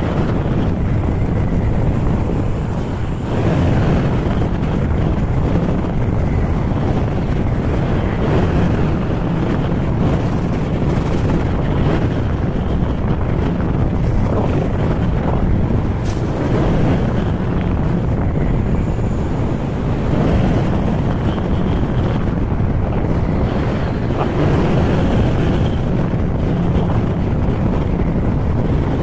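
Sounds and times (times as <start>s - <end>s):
road noise: 0.0s - 29.0s
wind rushing over microphone: 0.0s - 29.0s.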